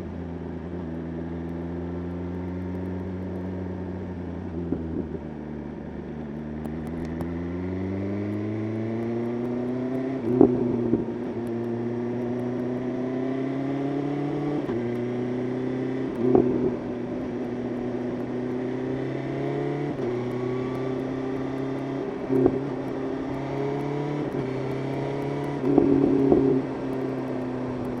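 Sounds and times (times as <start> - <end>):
motorcycle engine at highway speed: 0.0 - 28.0.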